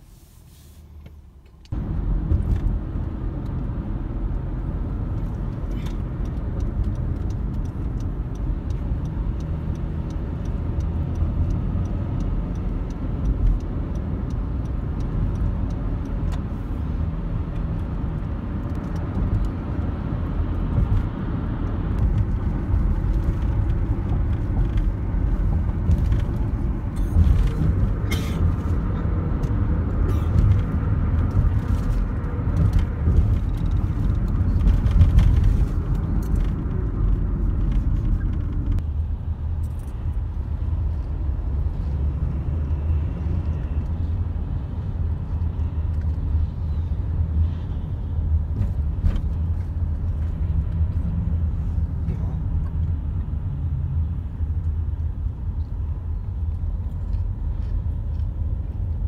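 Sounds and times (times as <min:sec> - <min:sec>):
car cabin road rumble: 0:00.0 - 0:59.0.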